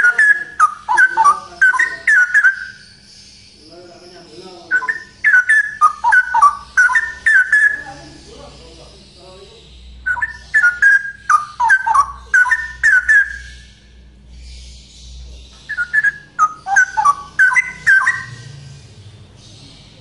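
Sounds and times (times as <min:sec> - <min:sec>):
bulbul singing: 0:00.0 - 0:20.0.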